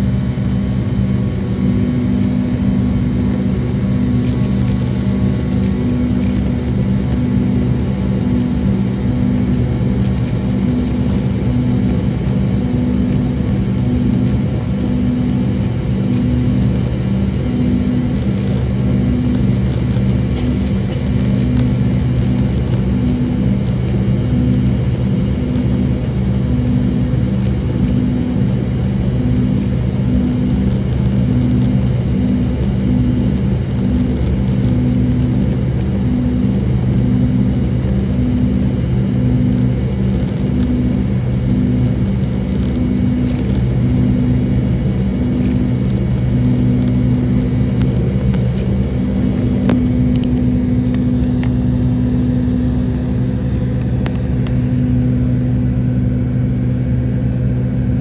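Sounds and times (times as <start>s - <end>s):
jet engine and airflow drone: 0.0s - 58.0s
pulsing low hum: 0.0s - 58.0s.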